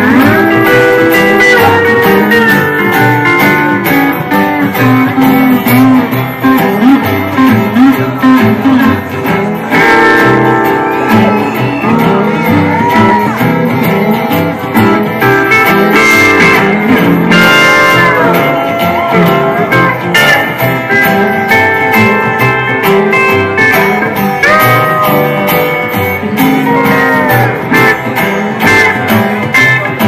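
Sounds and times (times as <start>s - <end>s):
steel guitar sliding notes: 0.0s - 30.0s
strummed acoustic guitar: 0.0s - 30.0s.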